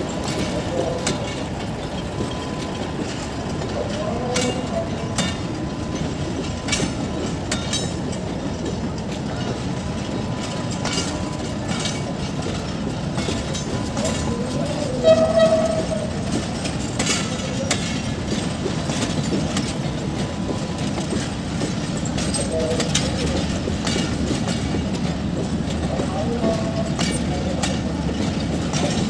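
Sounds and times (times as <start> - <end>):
train wheels clicking over rail joints: 0.0 - 29.0.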